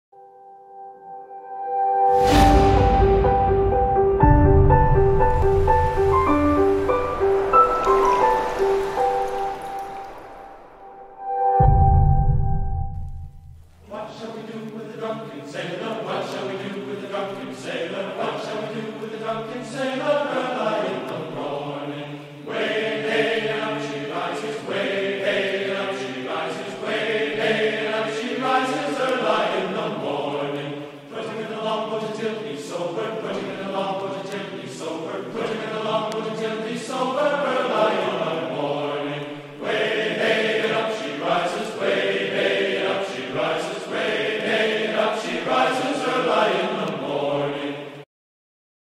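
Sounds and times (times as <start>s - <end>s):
wordless choir-like singing: 2.2s - 11.0s, 13.8s - 48.1s.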